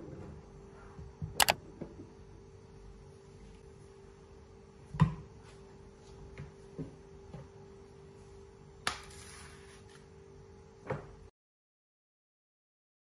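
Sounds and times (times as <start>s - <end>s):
faint steady hum: 0.0s - 11.3s.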